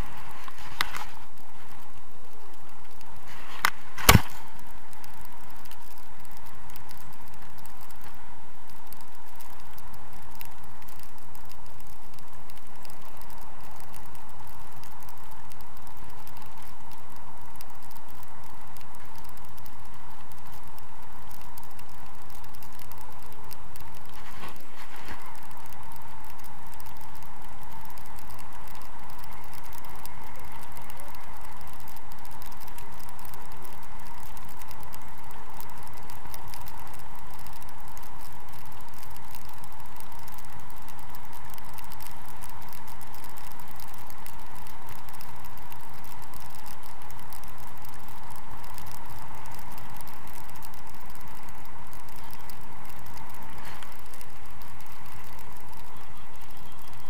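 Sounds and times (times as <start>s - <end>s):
mid-pitched hum: 0.0s - 57.0s.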